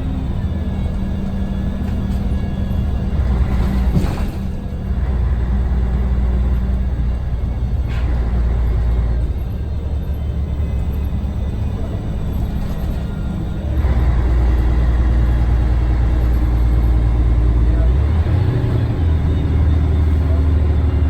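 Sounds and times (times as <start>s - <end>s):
diesel bus engine drone: 0.0s - 21.0s.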